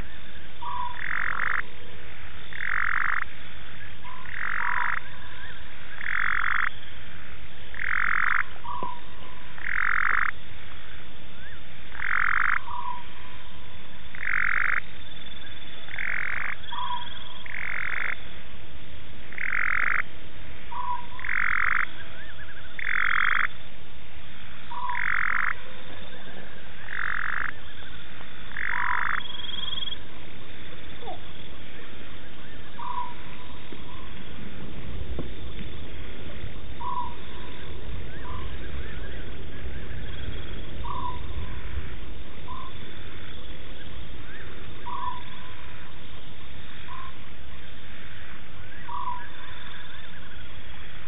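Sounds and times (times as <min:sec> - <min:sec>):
frogs calling: 0:00.0 - 0:18.4, 0:19.2 - 0:51.0.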